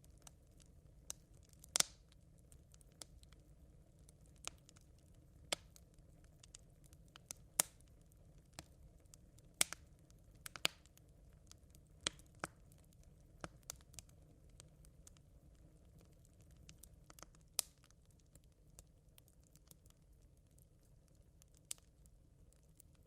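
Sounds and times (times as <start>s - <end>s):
campfire embers crackling: 0.0s - 23.0s
faint steady hiss: 0.0s - 23.0s.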